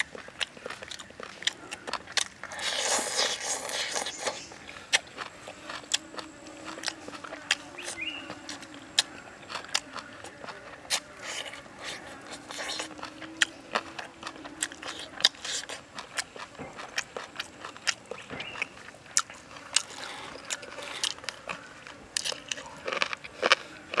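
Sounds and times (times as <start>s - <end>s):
person chewing ribs: 0.0s - 24.0s.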